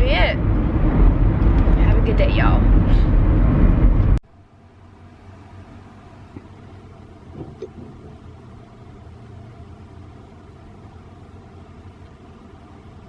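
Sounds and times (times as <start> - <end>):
car rumble from inside cabin: 0.0 - 4.2, 4.8 - 13.0.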